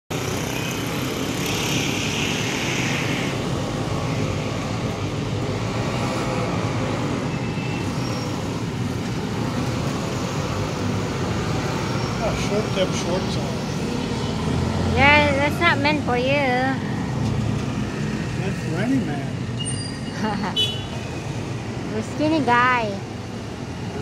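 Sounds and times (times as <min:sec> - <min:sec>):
street traffic rumble: 0:00.1 - 0:24.0.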